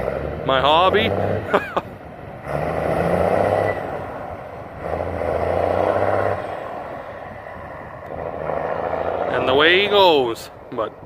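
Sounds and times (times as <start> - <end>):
diesel truck engine pulling away: 0.0 - 11.0.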